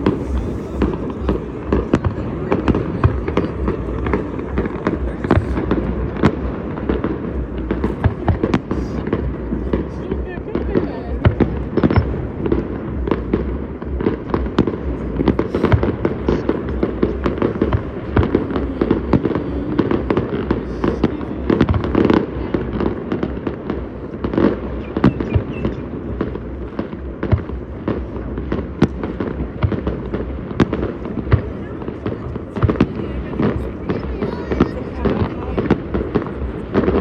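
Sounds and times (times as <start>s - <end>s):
fireworks bangs and pops: 0.0s - 37.0s
low rumble: 0.0s - 37.0s.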